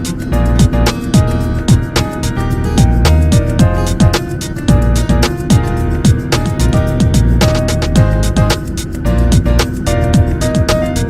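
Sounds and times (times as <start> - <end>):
drums: 0.0 - 11.0
plucked guitar-like notes: 0.0 - 11.0.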